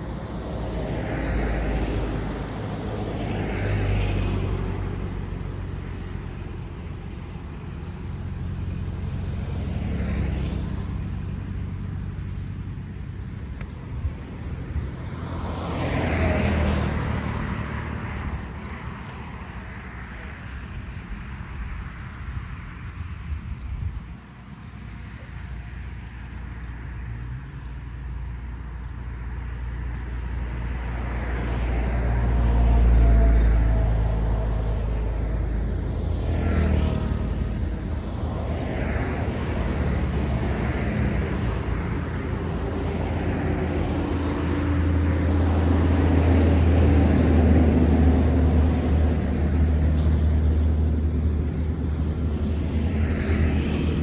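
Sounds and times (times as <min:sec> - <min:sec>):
passing vehicles engine rumble: 0:00.0 - 0:54.0.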